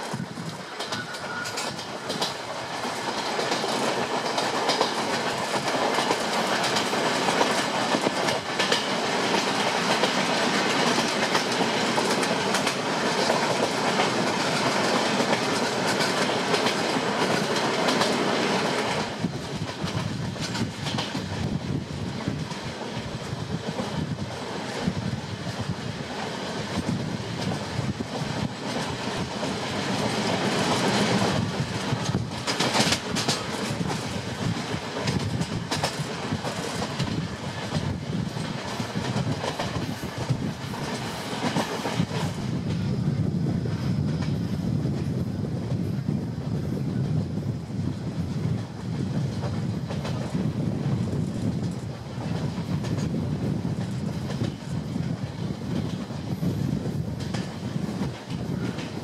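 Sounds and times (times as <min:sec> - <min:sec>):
wheels clacking over rail joints: 0:00.0 - 0:42.8, 0:48.6 - 0:59.0
train wheel and track noise: 0:00.0 - 0:59.0.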